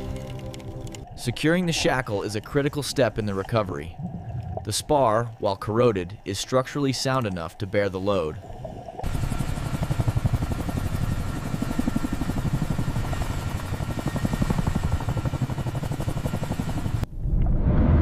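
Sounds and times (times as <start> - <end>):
helicopter rotors beating: 0.0 - 17.0
steady whine: 0.0 - 17.1.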